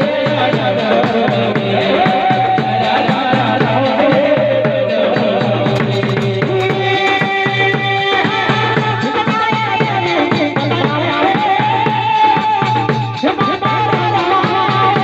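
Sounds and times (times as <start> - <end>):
hand drum beat: 0.0 - 15.0.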